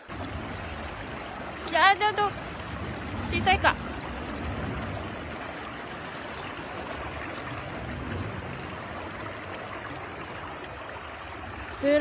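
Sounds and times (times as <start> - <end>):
stream water running over rocks: 0.0 - 12.0.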